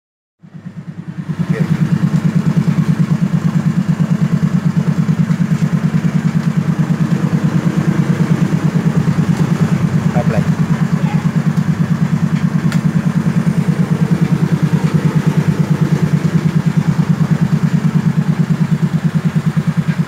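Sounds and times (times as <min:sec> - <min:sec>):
scooter engine idling: 0:00.4 - 0:20.0.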